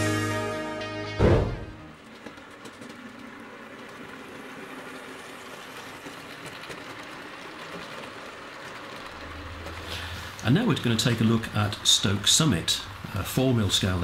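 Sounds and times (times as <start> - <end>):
model train rumble and hiss: 1.9 - 14.0
wheel clicks: 2.0 - 14.0.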